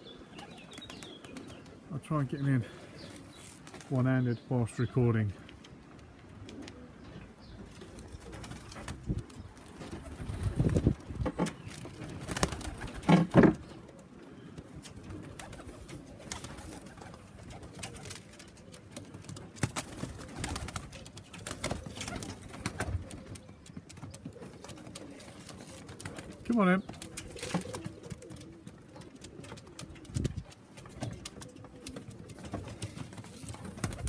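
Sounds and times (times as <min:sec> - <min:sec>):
pigeons cooing: 0:04.3 - 0:34.0.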